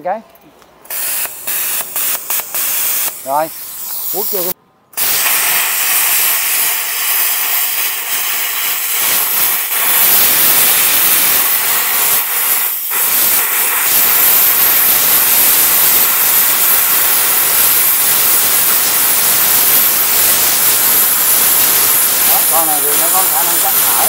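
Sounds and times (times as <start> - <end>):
plasma cutter hissing: 0.9 - 24.0.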